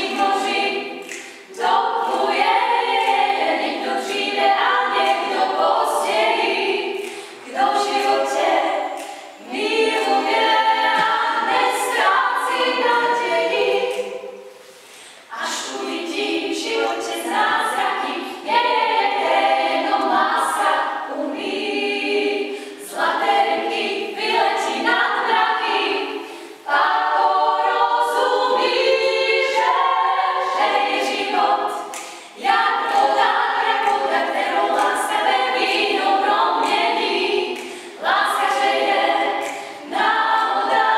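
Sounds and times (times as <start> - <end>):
women singing a cappella in harmony: 0.0 - 40.9.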